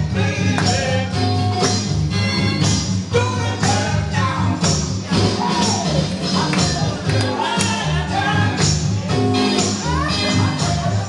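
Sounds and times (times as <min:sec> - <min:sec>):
loud music with heavy bass: 0:00.0 - 0:11.0.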